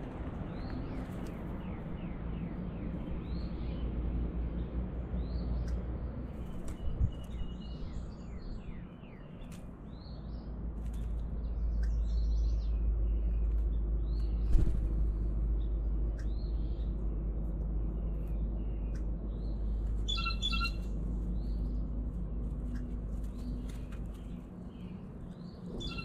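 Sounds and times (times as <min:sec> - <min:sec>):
steady low rumble: 0:00.0 - 0:26.0
songbirds chirping and singing: 0:00.3 - 0:26.0.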